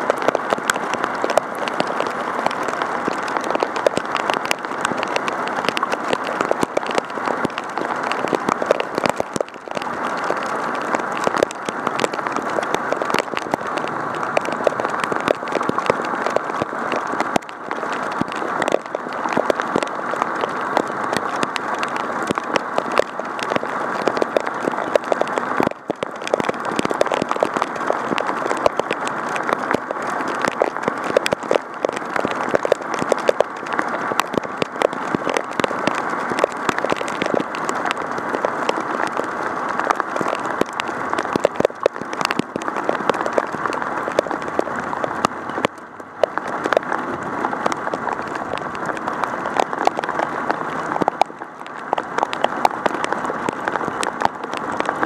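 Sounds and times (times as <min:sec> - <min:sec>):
heavy rain on camera: 0:00.0 - 0:55.0.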